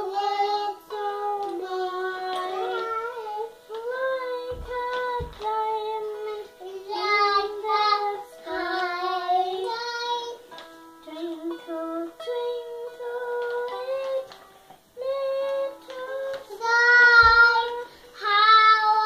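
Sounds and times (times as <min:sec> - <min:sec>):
girl singing: 0:00.0 - 0:19.0.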